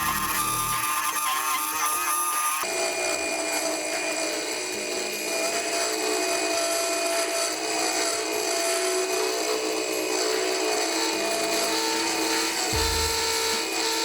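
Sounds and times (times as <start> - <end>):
small power tool running: 0.0 - 14.0.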